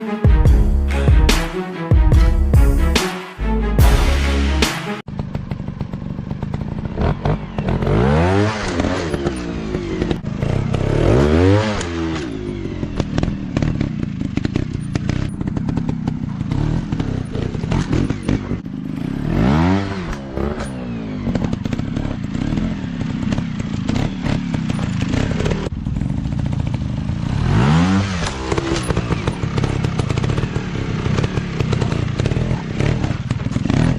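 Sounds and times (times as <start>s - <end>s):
dirt bike engines revving: 3.9s - 33.9s.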